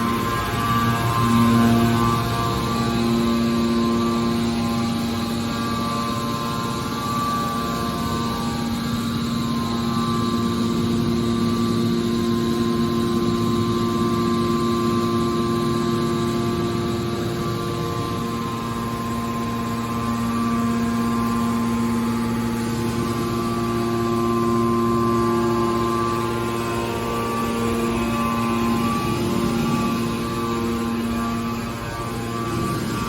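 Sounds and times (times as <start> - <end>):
hydraulic power unit humming: 0.0 - 33.0.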